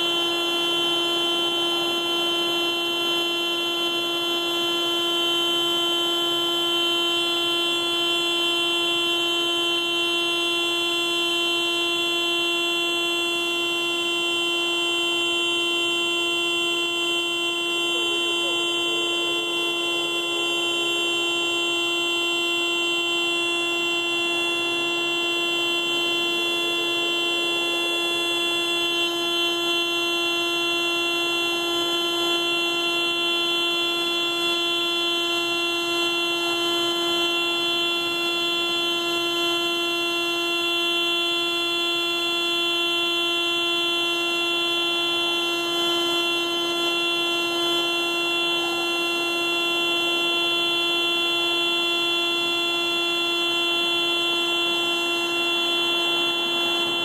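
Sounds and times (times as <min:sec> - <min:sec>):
car alarm horn steady tone: 0:00.0 - 0:57.0.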